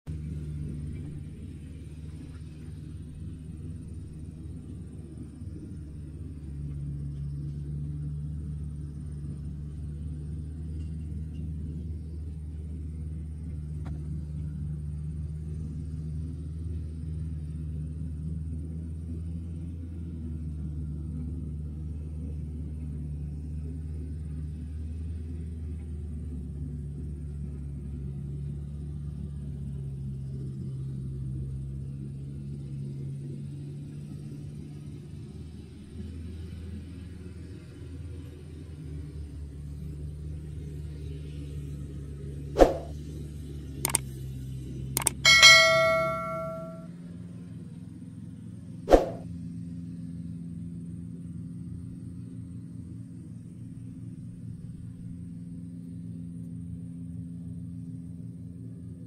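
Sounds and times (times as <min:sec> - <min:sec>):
diesel engine running steadily: 0:00.1 - 0:59.0.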